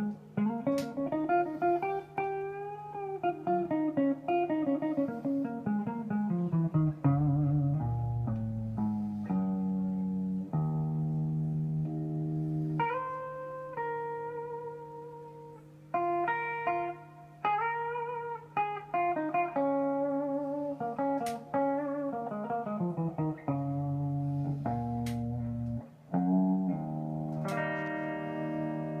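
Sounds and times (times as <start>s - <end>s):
electric guitar notes and chords: 0.0s - 29.0s.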